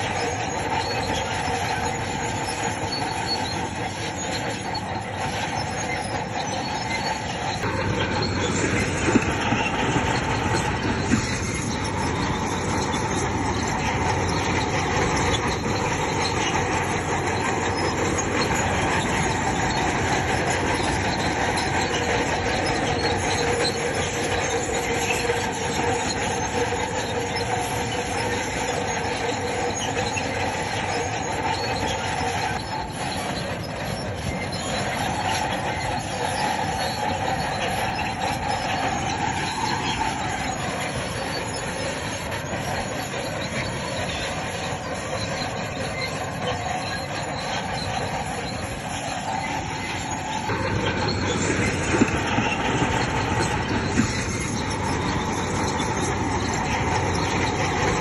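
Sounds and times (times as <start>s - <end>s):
bulldozer engine running: 0.0s - 58.0s
steel tracks squealing and clanking: 0.0s - 58.0s.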